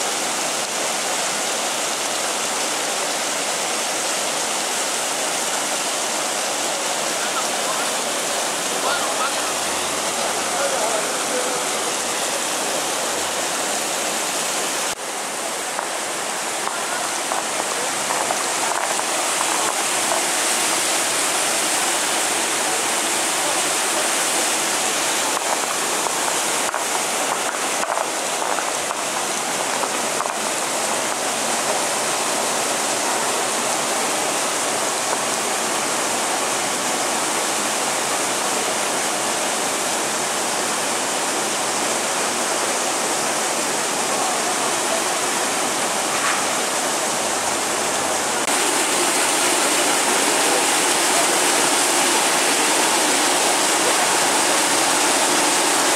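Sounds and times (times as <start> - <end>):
water pouring into pool: 0.0 - 55.9.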